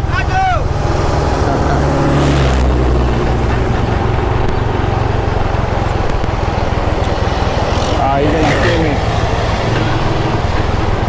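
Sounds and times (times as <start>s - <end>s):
motorbike engine droning: 0.0s - 11.0s.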